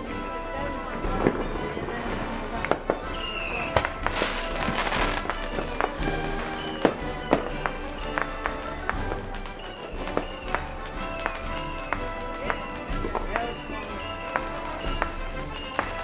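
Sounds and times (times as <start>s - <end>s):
background music: 0.0s - 16.0s
firework fountain spraying sparks: 0.0s - 16.0s
sharp firework pops: 2.5s - 16.0s.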